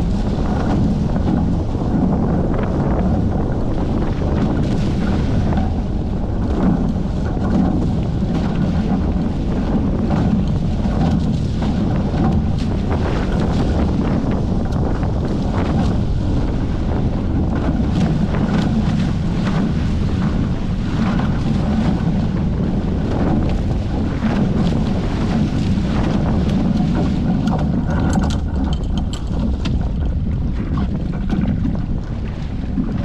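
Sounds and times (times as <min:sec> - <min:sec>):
water rushing along hulls: 0:00.0 - 0:33.0
wind buffeting microphone: 0:00.0 - 0:33.0.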